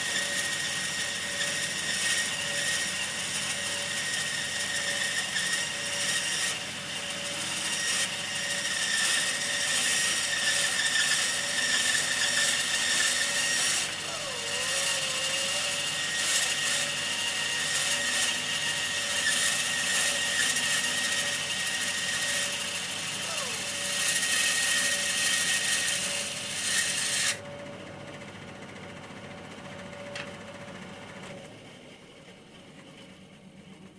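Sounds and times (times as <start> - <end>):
bandsaw cutting wood: 0.0 - 27.4.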